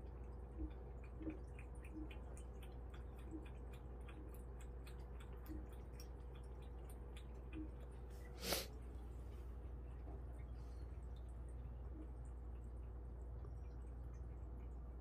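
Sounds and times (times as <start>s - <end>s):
cats chewing and licking: 0.0s - 15.0s
faint steady hum: 0.0s - 15.0s.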